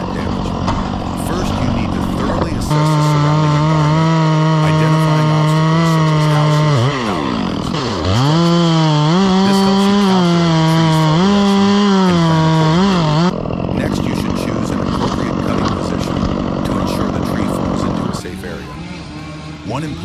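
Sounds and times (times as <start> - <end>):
chainsaw running at high revs: 0.0 - 20.0.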